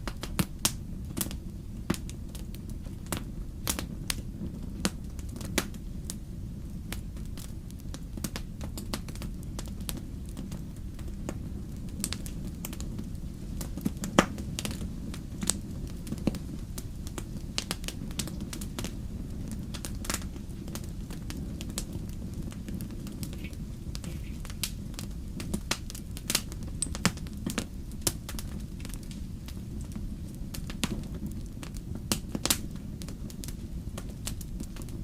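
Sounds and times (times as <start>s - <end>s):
fire crackles and pops: 0.0s - 35.0s
low rumble of flames: 0.0s - 35.0s.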